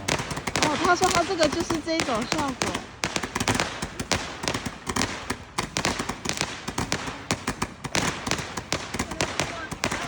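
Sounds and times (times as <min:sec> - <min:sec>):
firecrackers popping: 0:00.0 - 0:10.0.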